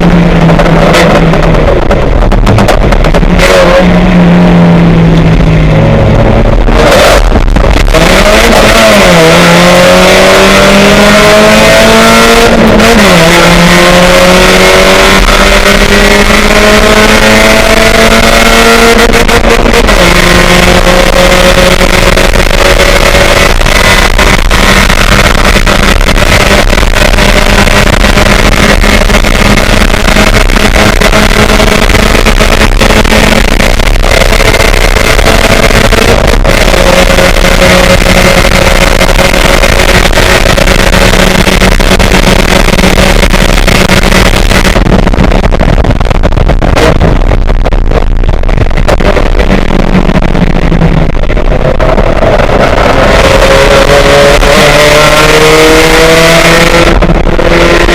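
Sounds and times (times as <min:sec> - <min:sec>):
race car engine accelerating: 0:00.0 - 0:57.9.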